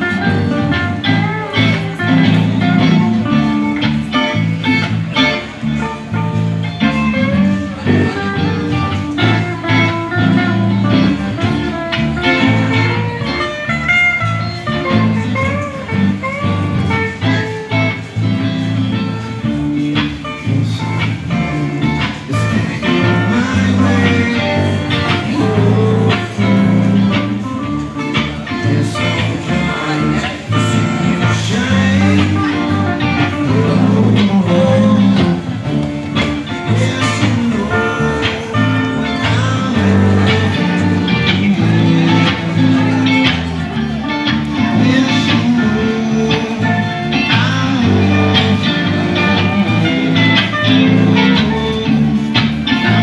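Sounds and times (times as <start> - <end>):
live band with electric guitars: 0.0 - 53.0.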